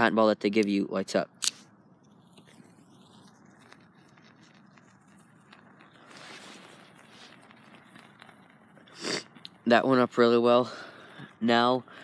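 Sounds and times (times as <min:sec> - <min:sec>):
match flame burning: 0:00.6 - 0:12.0.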